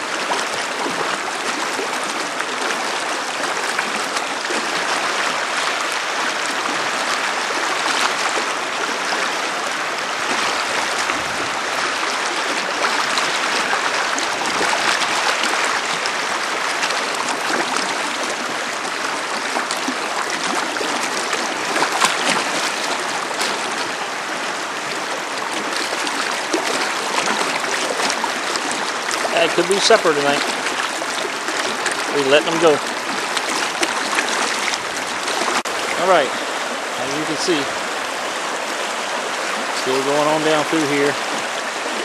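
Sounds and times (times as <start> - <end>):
river water rushing over rocks: 0.0 - 42.0.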